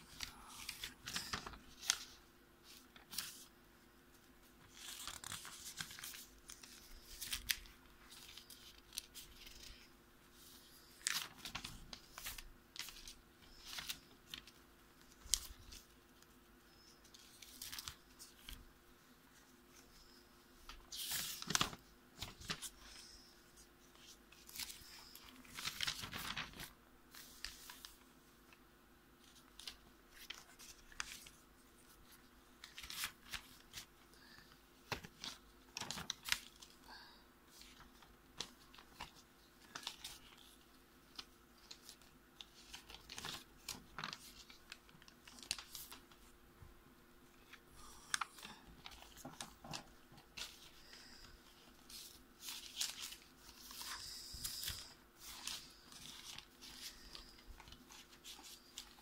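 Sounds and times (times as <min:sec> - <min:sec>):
paper pages rustling: 0:00.0 - 0:28.6, 0:29.2 - 0:46.4, 0:47.3 - 0:59.0.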